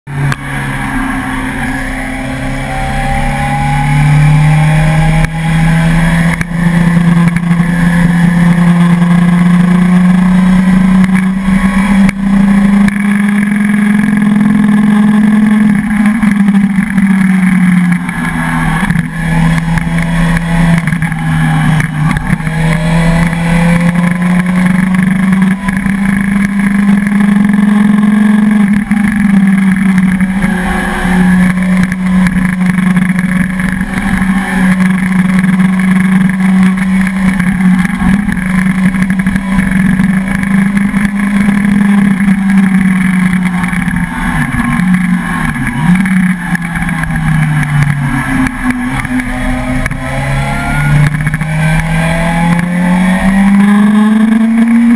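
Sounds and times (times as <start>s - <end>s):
motorcycle engine pulling: 0.1s - 54.9s.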